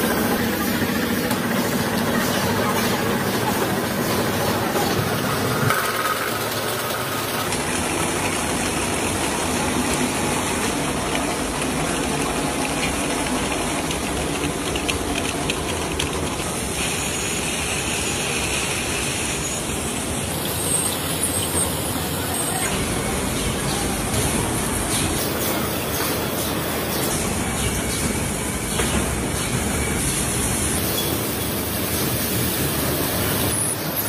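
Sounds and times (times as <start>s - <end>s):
machinery humming and hissing: 0.0s - 34.0s.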